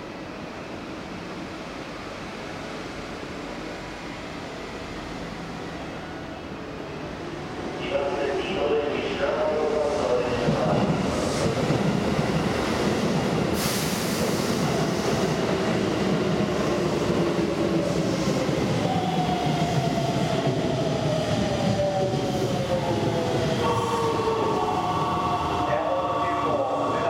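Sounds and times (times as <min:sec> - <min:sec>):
train rail and wheel rumble: 0:00.0 - 0:27.0.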